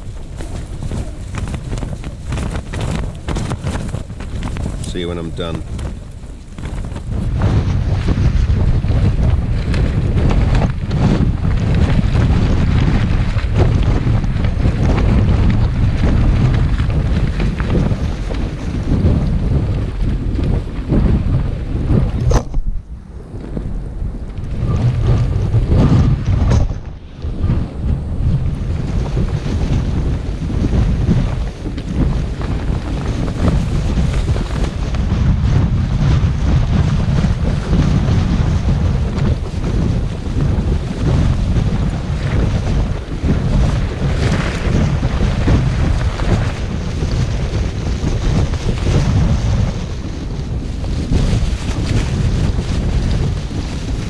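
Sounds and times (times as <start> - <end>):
gale wind buffeting a tent: 0.0 - 54.0.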